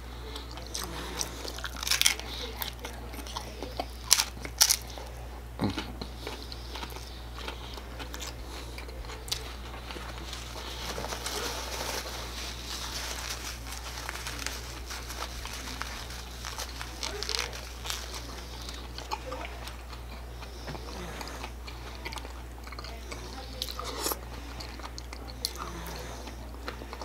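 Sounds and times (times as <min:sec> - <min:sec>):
soft chewing: 0:00.0 - 0:27.0
crunching taco bites: 0:00.4 - 0:05.0, 0:05.6 - 0:27.0.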